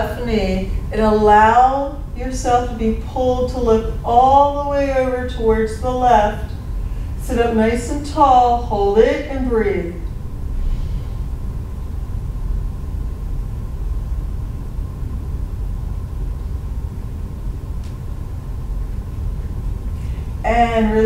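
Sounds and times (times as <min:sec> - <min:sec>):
low room rumble: 0:00.0 - 0:21.0.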